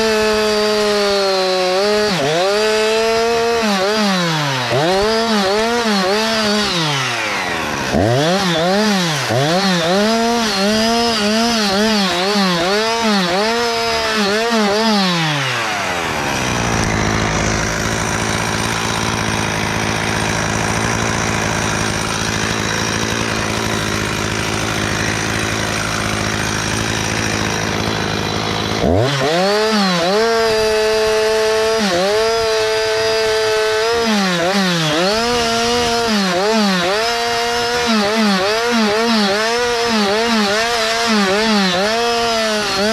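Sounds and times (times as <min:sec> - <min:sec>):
chainsaw engine revving: 0:00.0 - 0:42.9.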